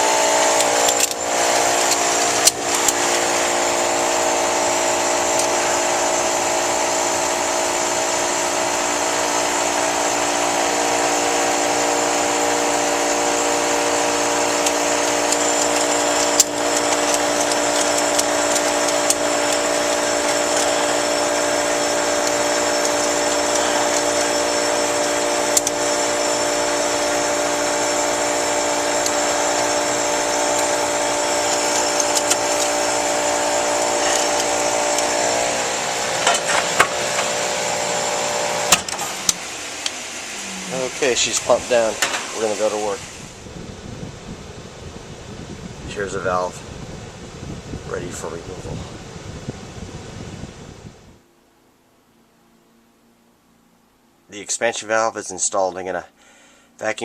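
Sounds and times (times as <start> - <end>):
air conditioner unit humming: 0.0 - 57.0.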